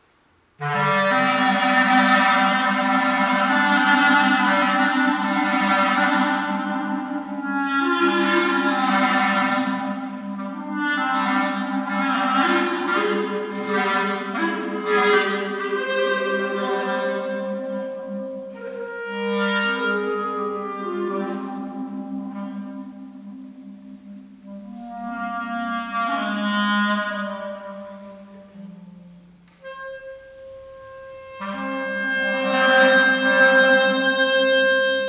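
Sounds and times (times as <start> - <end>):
clarinet melody: 0.6 - 35.0.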